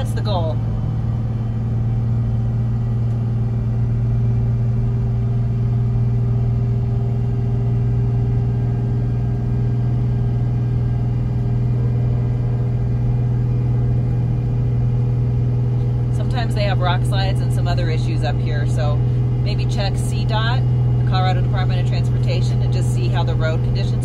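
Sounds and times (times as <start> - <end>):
diesel engine low drone: 0.0 - 24.0.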